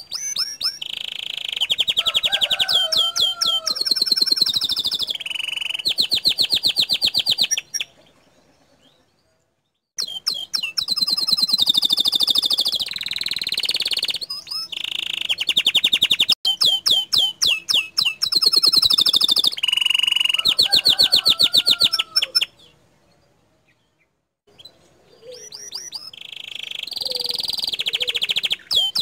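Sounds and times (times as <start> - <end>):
canary singing trills: 0.0 - 9.4, 10.0 - 29.0.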